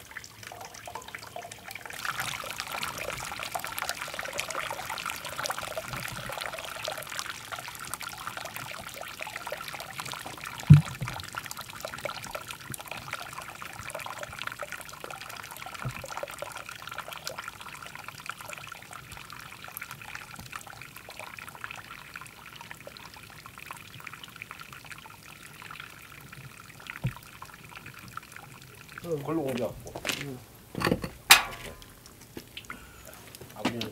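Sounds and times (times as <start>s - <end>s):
small ticks and splashes: 0.0s - 30.5s
liquid trickling and pouring: 0.0s - 33.9s.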